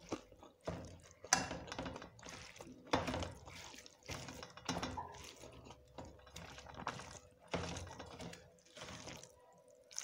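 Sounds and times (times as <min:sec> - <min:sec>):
fingers mixing wet rice: 0:00.0 - 0:10.0.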